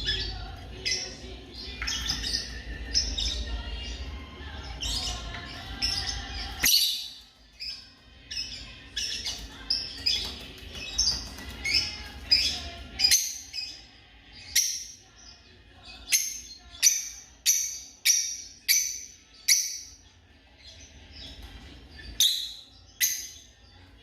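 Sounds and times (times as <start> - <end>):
lovebirds shrill chirps: 0.0 - 24.0.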